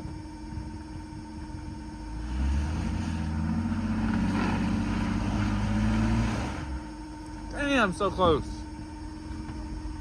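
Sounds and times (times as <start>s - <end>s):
vehicle engine idling and revving: 0.0s - 10.0s.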